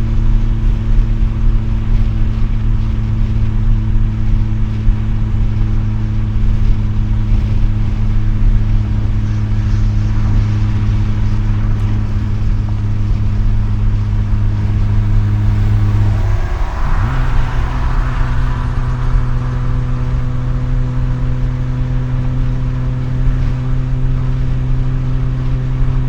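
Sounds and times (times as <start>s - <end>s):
rotary engine droning: 0.0s - 26.0s.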